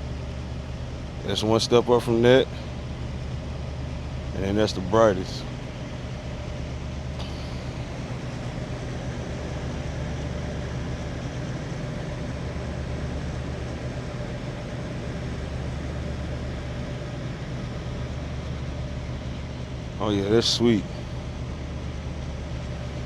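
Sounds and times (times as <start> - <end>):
truck engines idling: 0.0 - 23.0.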